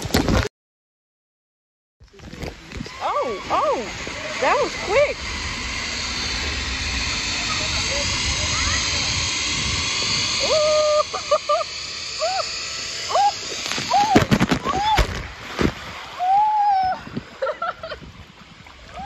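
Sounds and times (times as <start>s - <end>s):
zip line trolley hissing on cable: 2.3s - 15.2s, 16.0s - 19.0s.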